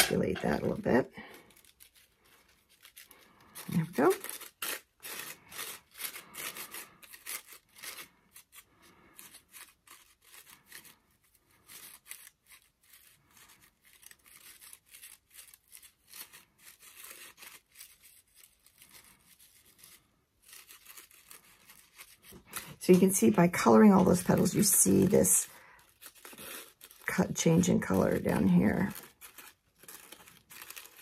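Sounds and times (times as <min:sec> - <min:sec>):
paper crinkling and rustling: 0:00.0 - 0:31.0.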